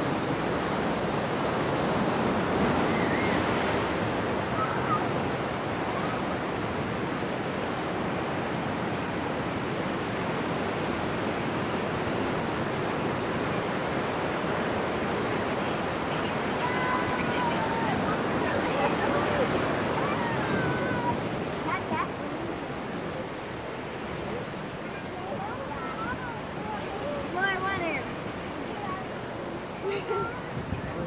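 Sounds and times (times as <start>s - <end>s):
ocean surf breaking on rocks: 0.0s - 31.0s.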